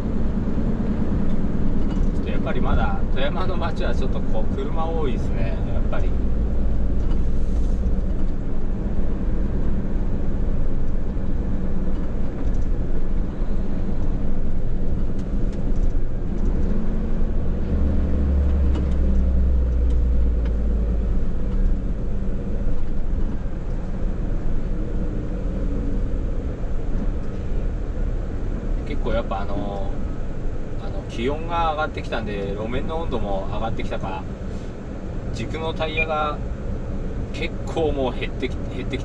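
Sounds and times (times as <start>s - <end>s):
truck diesel engine rumble: 0.0s - 39.0s.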